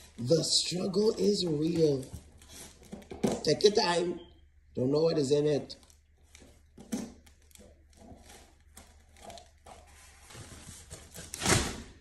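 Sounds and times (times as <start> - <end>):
cardboard rustling: 0.0 - 3.5, 5.8 - 11.9.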